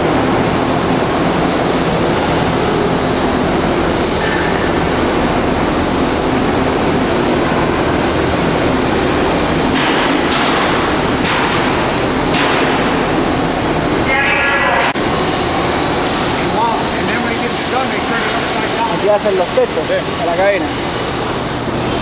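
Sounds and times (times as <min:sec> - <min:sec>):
factory machinery rumble: 0:00.0 - 0:22.0.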